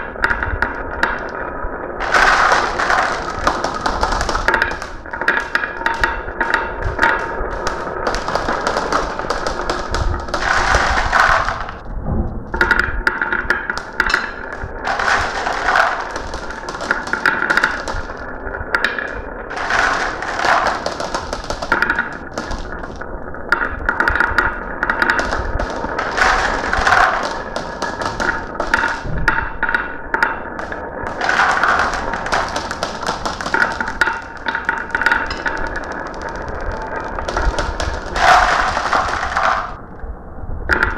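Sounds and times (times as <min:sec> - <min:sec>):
marbles clattering down marble run: 0:00.0 - 0:11.9, 0:12.5 - 0:39.8.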